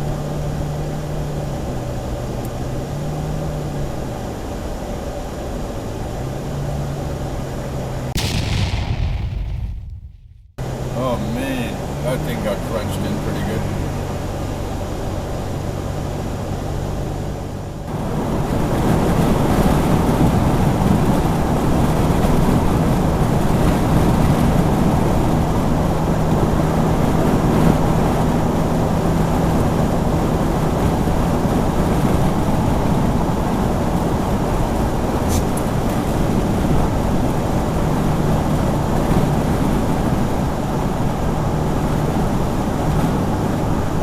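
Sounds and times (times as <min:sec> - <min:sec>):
car engine and road noise: 0:00.0 - 0:08.1, 0:10.6 - 0:44.0.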